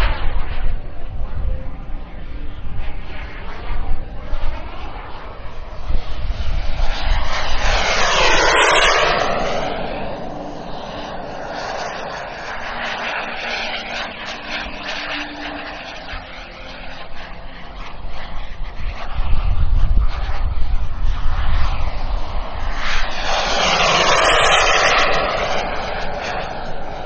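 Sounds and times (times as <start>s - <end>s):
model jet flying past: 0.0s - 27.0s.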